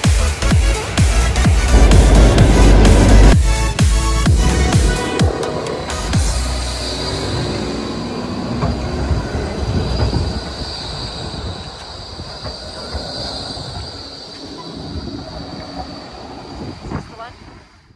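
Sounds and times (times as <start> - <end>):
tram wheels rumbling on rails: 0.0 - 17.8
high-pitched wheel squeal: 0.8 - 17.5.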